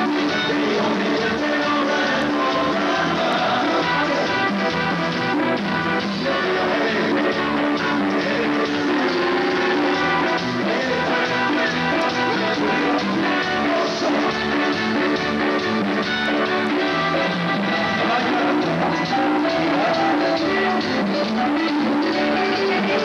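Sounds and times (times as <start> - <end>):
band song with steady beat: 0.0 - 23.0.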